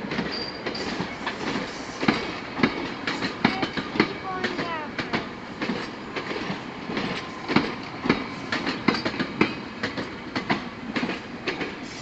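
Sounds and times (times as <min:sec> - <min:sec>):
rumble of passing train cars: 0:00.0 - 0:12.0
train wheels clacking over rail joints: 0:00.0 - 0:12.0.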